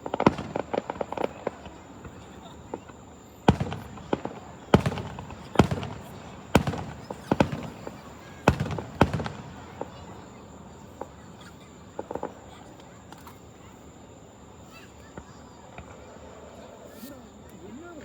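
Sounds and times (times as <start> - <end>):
fireworks bangs: 0.0 - 17.4
firework pops and crackles: 0.0 - 17.7.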